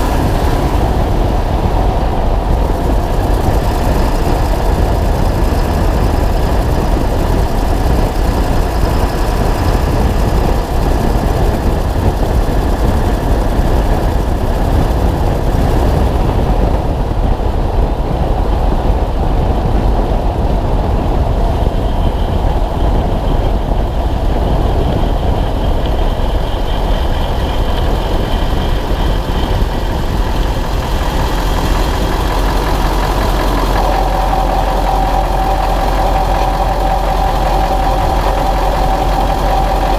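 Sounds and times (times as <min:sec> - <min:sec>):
diesel truck engine running: 0:00.0 - 0:39.9
exhaust ticking: 0:00.0 - 0:39.9
road and wind noise: 0:00.0 - 0:39.9.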